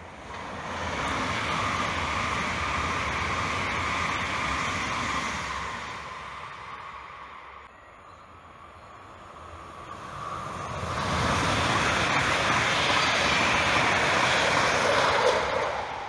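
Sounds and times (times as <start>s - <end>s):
train wheels rushing on rail: 0.0s - 7.7s, 8.7s - 16.0s.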